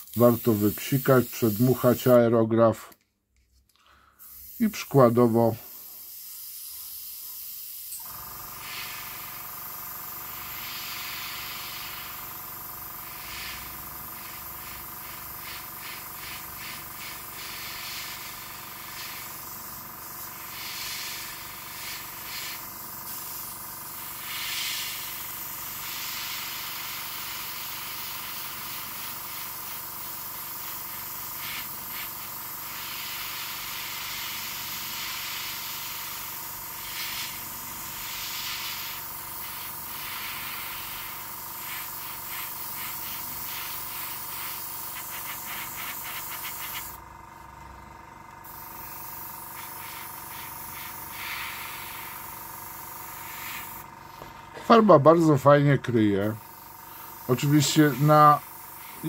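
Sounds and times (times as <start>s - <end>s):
airbrush spraying hiss: 0.0s - 2.2s, 4.0s - 47.0s, 48.4s - 54.6s, 56.2s - 59.0s.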